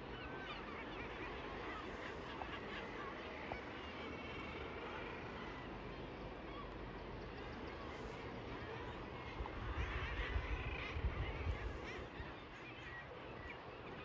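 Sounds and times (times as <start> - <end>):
seabird colony calling: 0.0 - 14.0.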